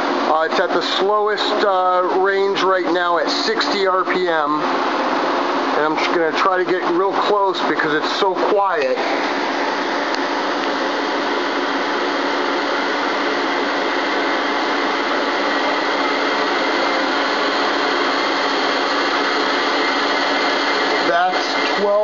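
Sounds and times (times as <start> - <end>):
machine spindle humming: 0.0 - 22.0.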